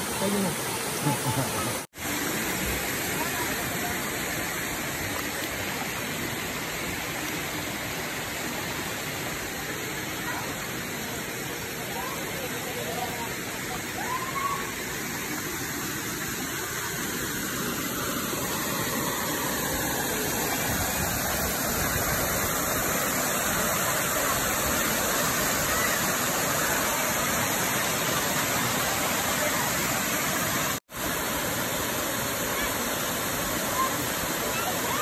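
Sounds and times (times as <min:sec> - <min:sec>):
waterfall pouring into pool: 0:00.0 - 0:35.0.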